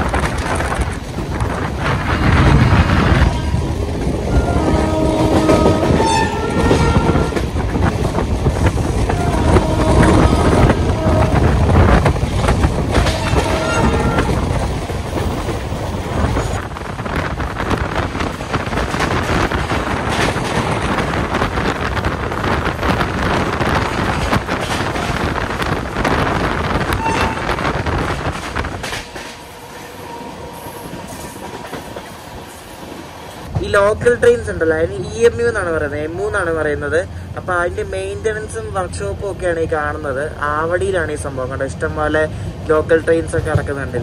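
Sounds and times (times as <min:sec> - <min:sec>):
train wheels rumbling on rails: 0:00.0 - 0:44.0
wind: 0:00.0 - 0:44.0.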